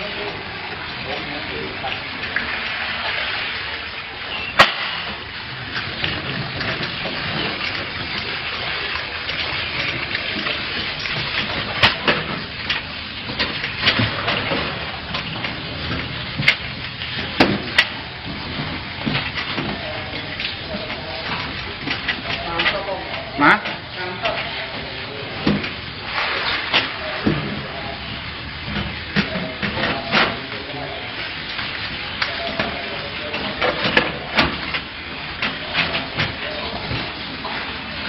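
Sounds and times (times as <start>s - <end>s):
water rushing and splashing: 0.0s - 38.0s.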